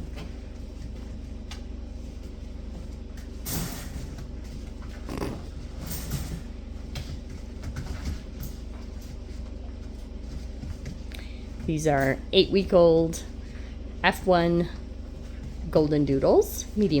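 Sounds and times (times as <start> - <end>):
puppies scuffling and rustling: 0.0 - 17.0
steady low hum: 0.0 - 17.0.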